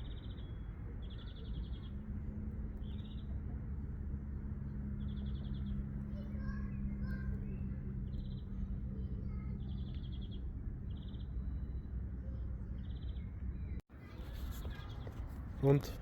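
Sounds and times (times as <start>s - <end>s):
low background rumble: 0.0s - 14.2s
songbirds trilling: 0.0s - 16.0s.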